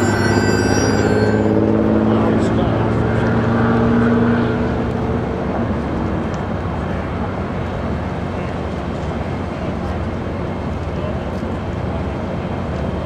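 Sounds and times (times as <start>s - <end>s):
train cars rolling on track: 0.0s - 13.0s.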